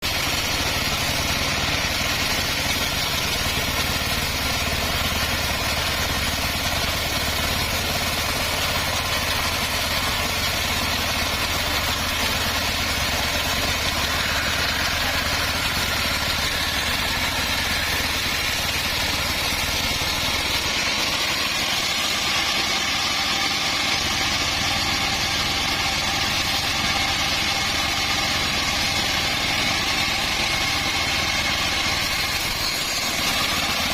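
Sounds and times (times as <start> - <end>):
motor hum: 0.0 - 28.1
bandsaw sawing through log: 0.0 - 33.9.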